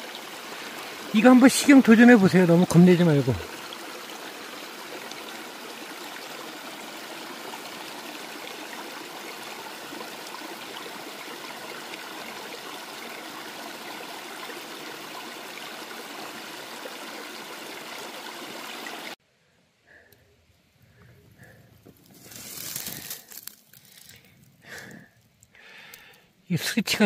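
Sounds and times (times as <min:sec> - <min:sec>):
stream running over rocks: 0:00.0 - 0:19.2, 0:21.9 - 0:27.0.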